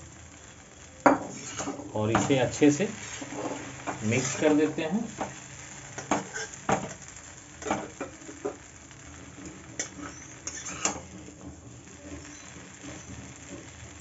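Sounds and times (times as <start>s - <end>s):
faint sizzle: 0.0s - 14.0s
metal spatula scraping a wok: 1.1s - 14.0s.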